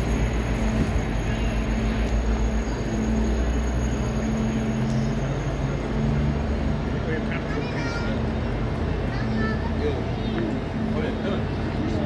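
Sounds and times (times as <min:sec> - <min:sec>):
busy station din: 0:00.0 - 0:12.0
train humming at platform: 0:00.0 - 0:12.0.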